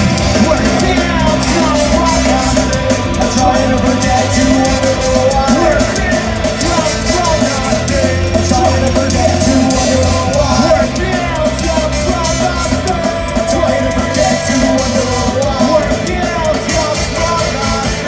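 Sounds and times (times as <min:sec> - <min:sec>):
shouted vocals: 0:00.0 - 0:18.0
ska-punk band playing live: 0:00.0 - 0:18.0.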